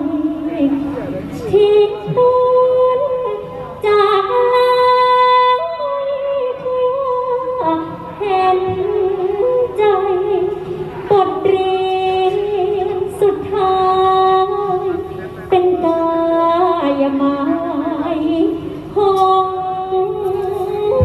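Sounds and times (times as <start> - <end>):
woman singing through microphone: 0.0 - 21.0.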